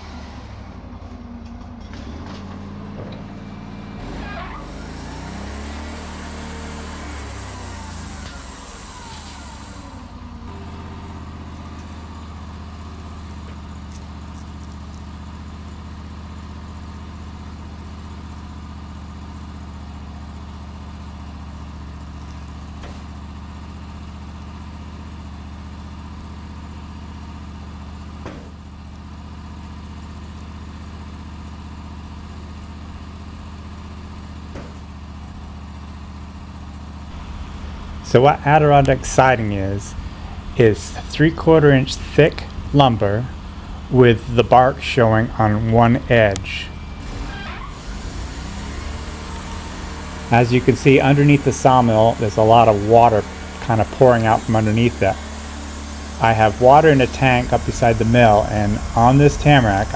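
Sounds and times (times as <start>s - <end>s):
bandsaw mill sawing log: 0.0s - 59.9s.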